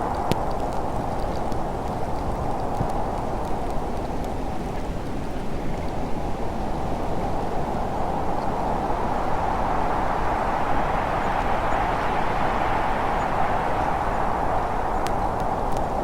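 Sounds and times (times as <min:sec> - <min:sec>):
snowstorm wind rushing: 0:00.0 - 0:16.0.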